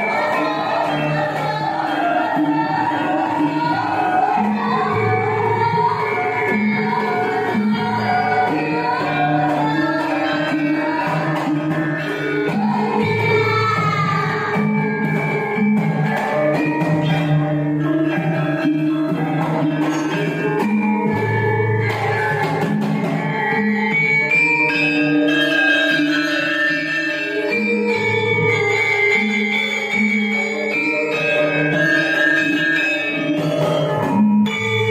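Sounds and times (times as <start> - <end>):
hand drum: 0.0 - 26.1, 27.2 - 34.9
gamelan ensemble playing: 0.0 - 34.9.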